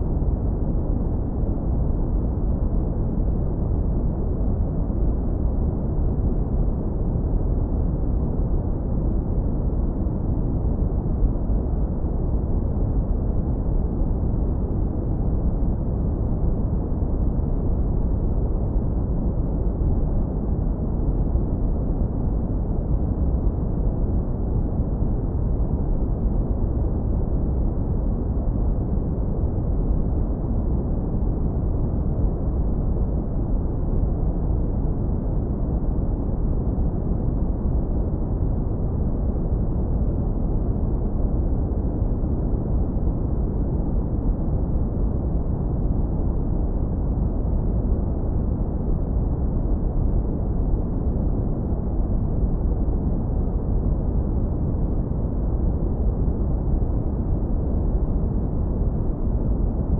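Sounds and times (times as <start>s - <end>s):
deep rumbling brown noise: 0.0s - 59.9s.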